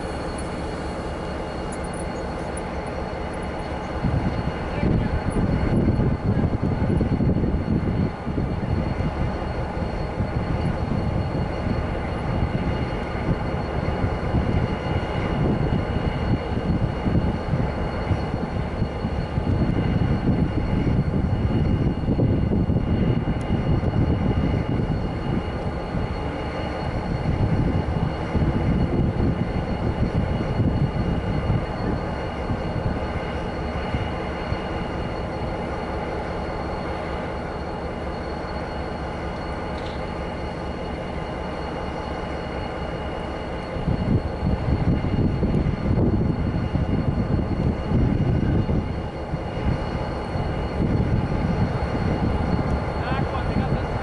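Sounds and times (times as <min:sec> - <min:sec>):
diesel locomotive rumbling: 0:00.0 - 0:54.0.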